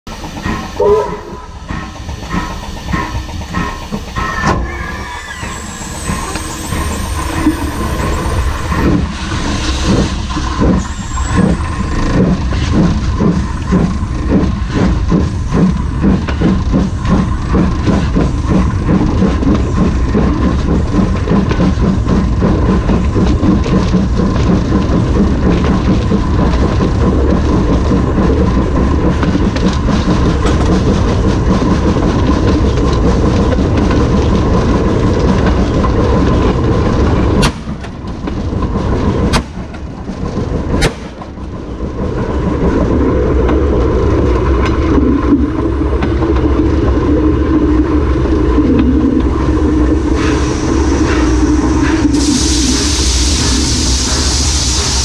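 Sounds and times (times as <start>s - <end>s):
locomotive wheels rolling on rails: 0.1s - 55.0s.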